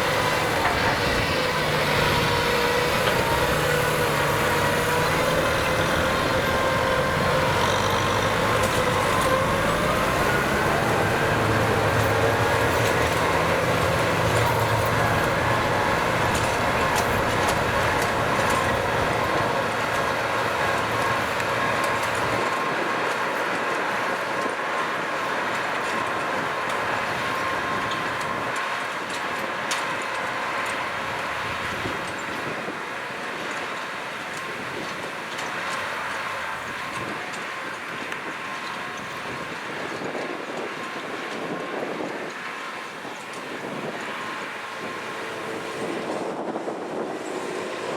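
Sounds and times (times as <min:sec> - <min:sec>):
tractor diesel engine rumbling: 0:00.0 - 0:47.9.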